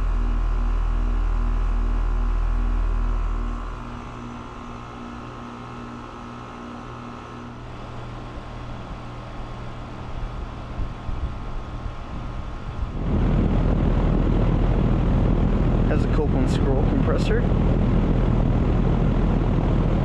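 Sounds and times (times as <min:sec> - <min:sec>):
air conditioner condenser humming: 0:00.0 - 0:20.0.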